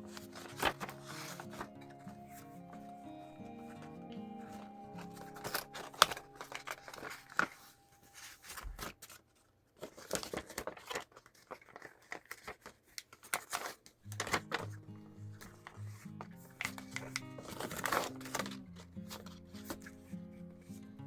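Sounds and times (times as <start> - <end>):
plastic film crinkling and peeling: 0.0 - 20.1.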